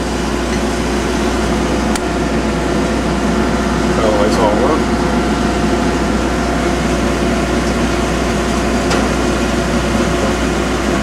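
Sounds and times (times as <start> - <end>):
grinder motor humming: 0.0 - 11.0.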